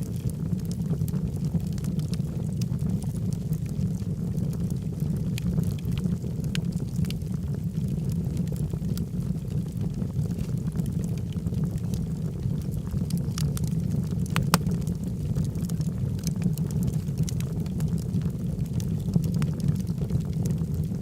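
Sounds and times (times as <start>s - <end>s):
logs burning in fireplace: 0.0s - 21.0s.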